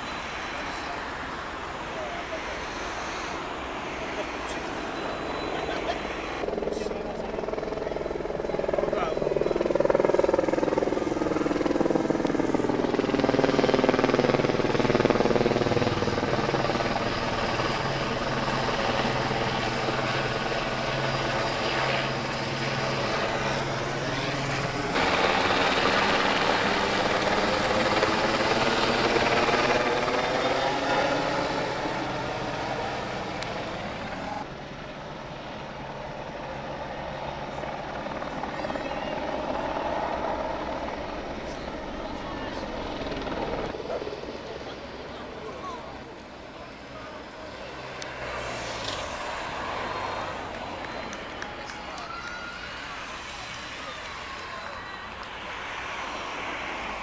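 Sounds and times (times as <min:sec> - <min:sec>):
helicopter rotor chop: 0:00.0 - 0:57.0.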